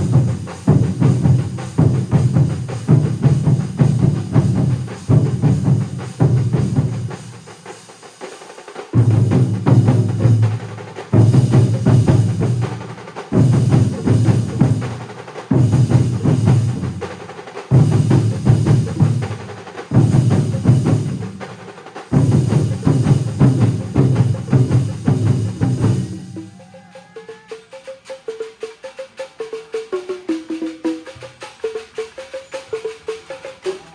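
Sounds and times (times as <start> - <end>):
ensemble of drums playing: 0.0 - 33.9.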